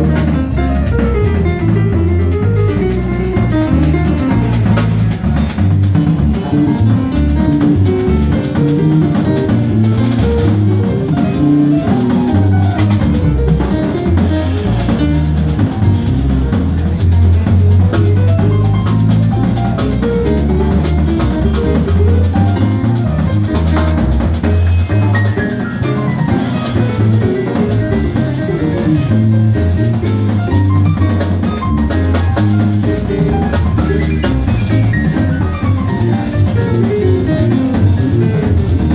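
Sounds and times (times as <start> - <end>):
bass line: 0.0 - 38.9
drum kit: 0.0 - 38.9
jazz band playing: 0.0 - 38.9.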